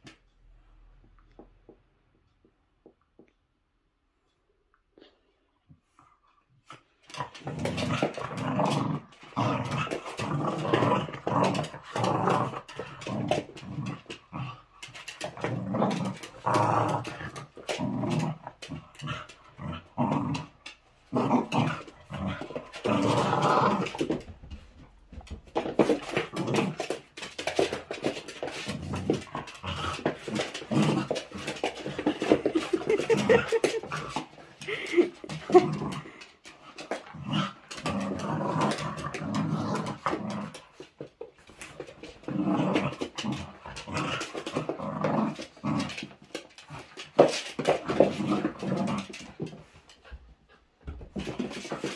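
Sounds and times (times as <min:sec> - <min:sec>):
dogs growling: 0:06.3 - 0:51.9.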